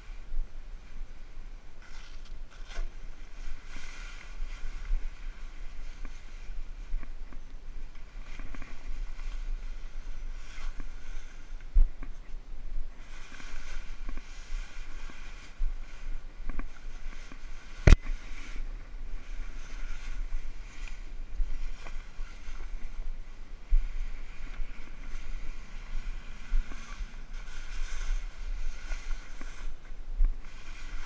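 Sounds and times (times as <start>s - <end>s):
fabric cover rustling: 0.0s - 31.0s.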